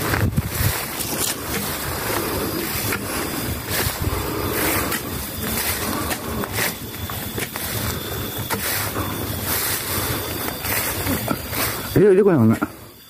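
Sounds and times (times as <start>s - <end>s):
wind buffeting microphone: 0.0s - 12.0s
grass and brush rustling: 0.0s - 12.9s.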